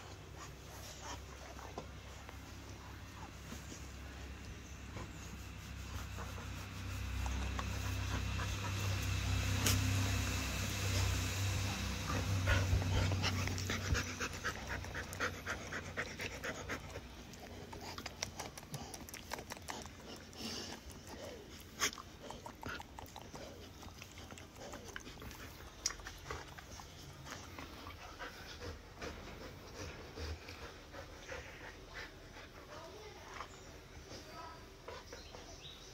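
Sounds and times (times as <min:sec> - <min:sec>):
dog panting: 0:00.0 - 0:35.9.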